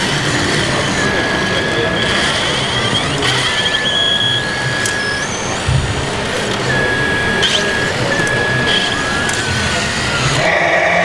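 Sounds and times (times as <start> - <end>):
crowd noise in hall: 0.0 - 11.0
electric hydraulics whine: 0.0 - 11.0.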